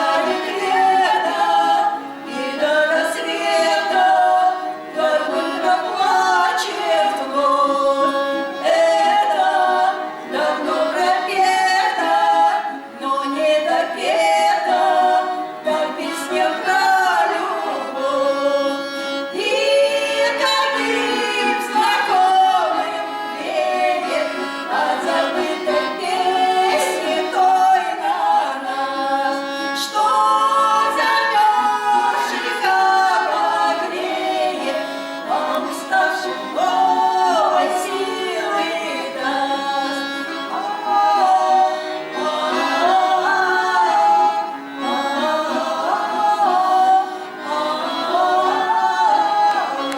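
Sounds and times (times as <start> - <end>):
choir singing: 0.0 - 49.9.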